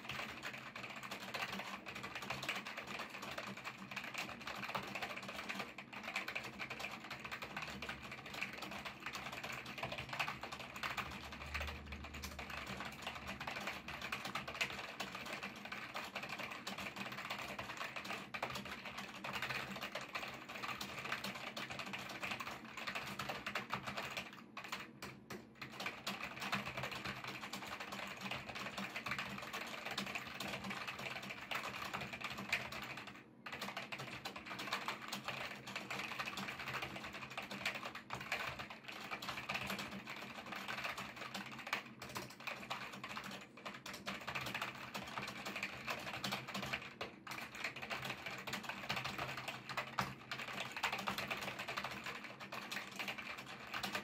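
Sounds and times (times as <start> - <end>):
fast typing on computer keyboard: 0.0 - 54.0.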